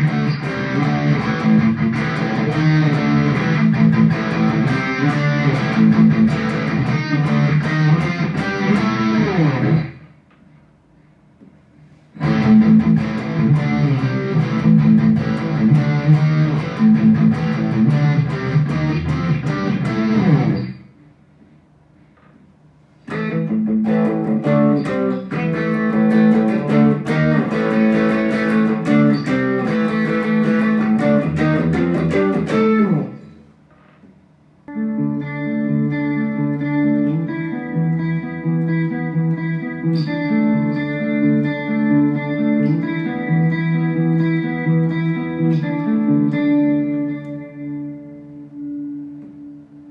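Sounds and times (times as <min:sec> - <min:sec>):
electric guitar with effects: 0:00.0 - 0:10.6, 0:11.8 - 0:22.3, 0:22.9 - 0:49.9.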